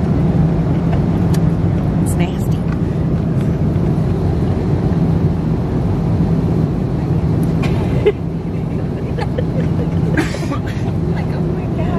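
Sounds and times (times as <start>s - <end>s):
airliner cabin drone: 0.0s - 11.9s.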